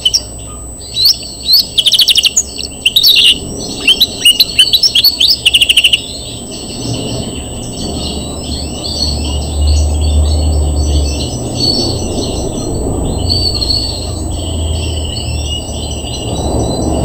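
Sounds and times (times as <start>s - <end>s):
finch singing rattling trills: 0.0s - 17.0s.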